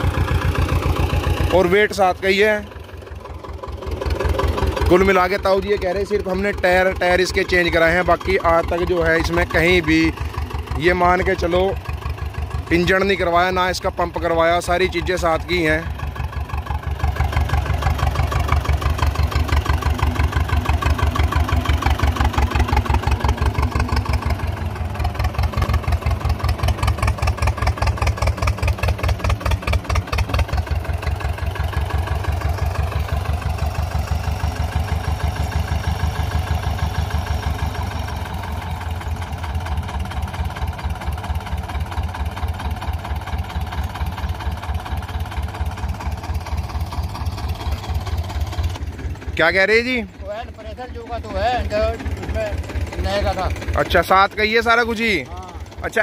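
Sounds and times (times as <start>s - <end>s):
tractor diesel engine chugging: 0.0s - 56.0s.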